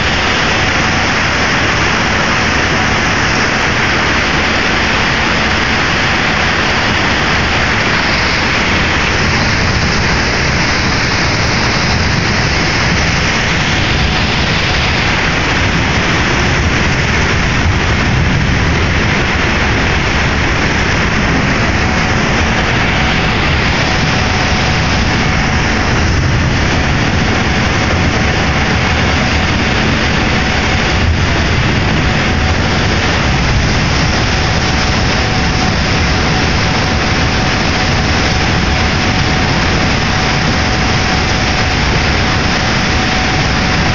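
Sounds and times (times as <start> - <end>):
faint hum: 0.0 - 43.9
ferry engine drone: 0.0 - 43.9.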